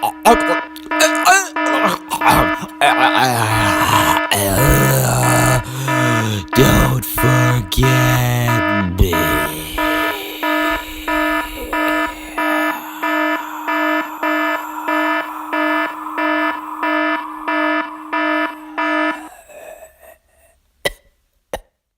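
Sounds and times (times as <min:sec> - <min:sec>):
low buzzy alarm beeps: 0:00.0 - 0:19.4.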